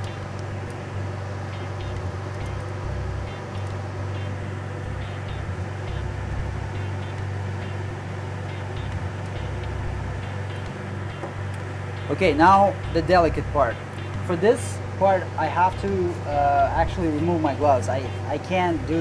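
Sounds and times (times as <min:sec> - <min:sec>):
blower humming: 0:00.0 - 0:19.0.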